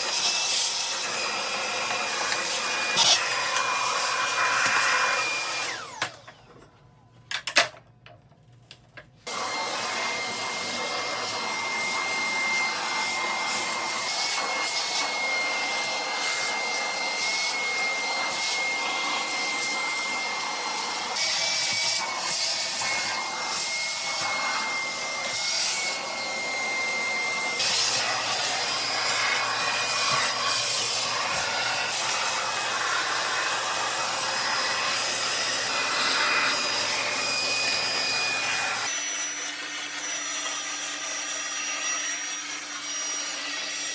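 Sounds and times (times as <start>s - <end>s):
vacuum cleaner motor whine: 0.0s - 7.7s, 9.2s - 43.9s.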